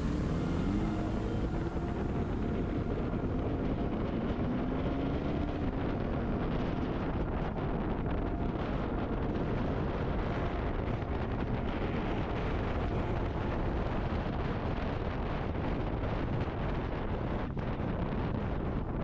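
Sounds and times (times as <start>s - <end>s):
motorcycle running: 0.0s - 19.0s
road noise: 0.0s - 19.0s
wind buffeting microphone: 0.0s - 19.0s.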